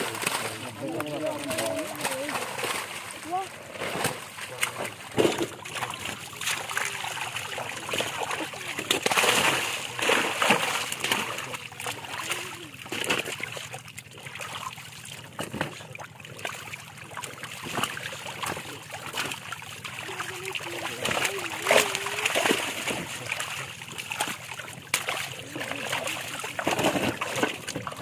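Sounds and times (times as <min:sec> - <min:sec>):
fish thrashing in shallow water: 0:00.0 - 0:28.0.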